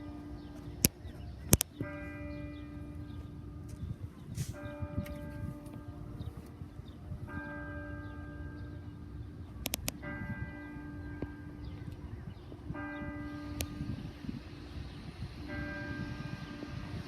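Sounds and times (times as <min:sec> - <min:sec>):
church bell tolling: 0:00.0 - 0:17.0.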